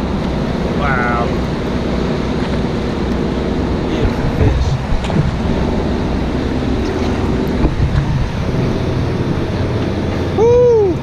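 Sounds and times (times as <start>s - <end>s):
boat engine running: 0.0s - 11.0s
sea water washing: 0.0s - 11.0s
wind buffeting microphone: 0.0s - 11.0s.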